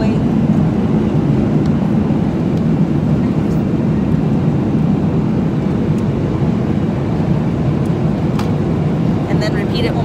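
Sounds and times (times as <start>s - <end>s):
airliner cabin engine drone: 0.0s - 10.0s.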